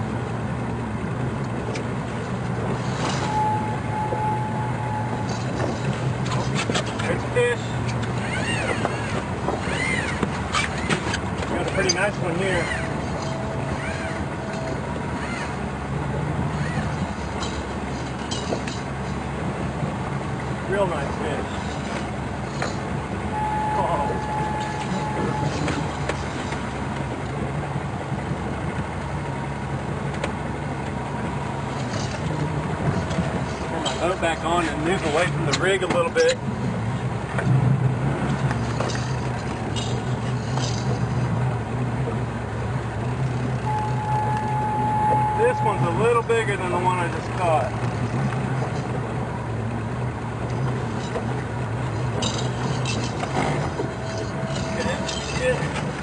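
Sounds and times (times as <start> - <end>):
boat engine running: 0.0 - 56.0
water noise: 0.0 - 56.0
wind: 0.0 - 56.0.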